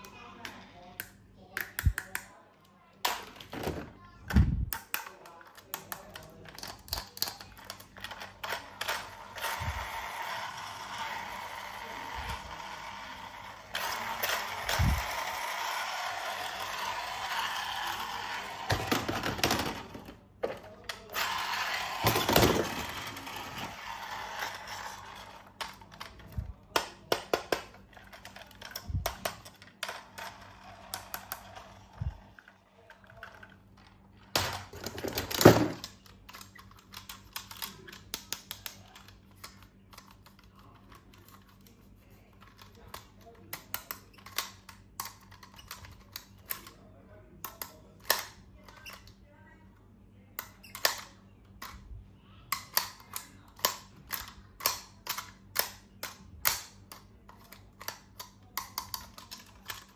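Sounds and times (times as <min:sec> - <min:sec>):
plastic toys clicking and tapping: 0:00.1 - 0:02.4, 0:04.6 - 0:41.7, 0:42.4 - 0:46.8, 0:47.4 - 0:49.2, 0:50.4 - 0:51.8, 0:52.5 - 0:59.9.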